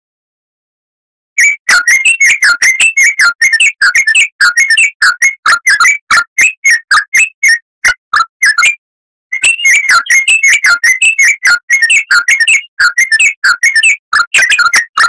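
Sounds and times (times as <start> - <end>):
bird song whistled notes: 1.4 - 15.0.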